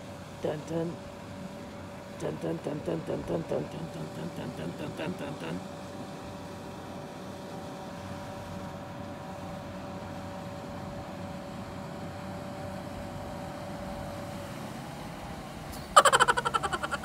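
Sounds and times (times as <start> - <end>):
distant vehicle engine hum: 0.0 - 17.0.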